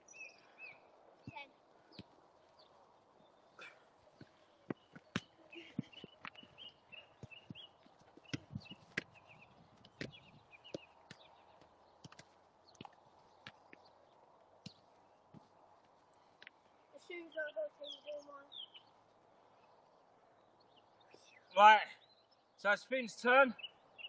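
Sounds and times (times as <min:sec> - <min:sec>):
bird chirps: 0:00.0 - 0:15.3, 0:16.2 - 0:22.6, 0:23.5 - 0:24.0.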